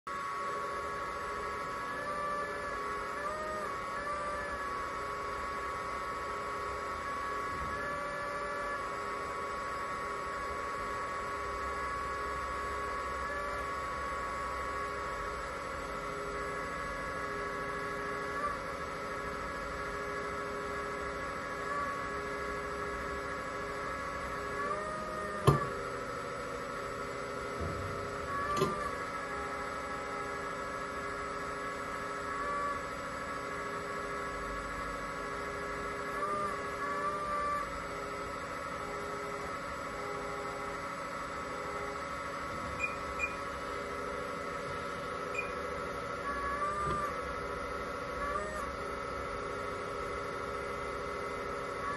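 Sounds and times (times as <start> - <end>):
hydraulic pump whine: 0.1 - 51.9.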